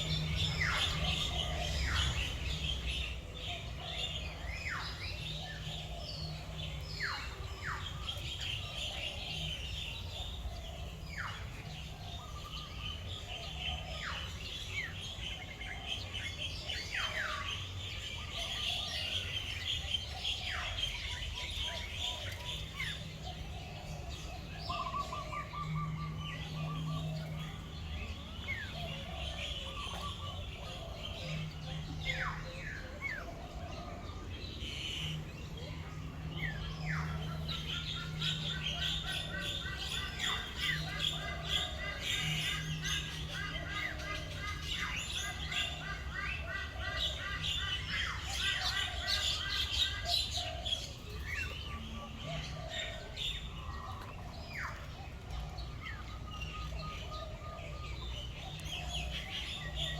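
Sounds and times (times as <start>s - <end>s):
many birds chirping: 0.0s - 59.9s.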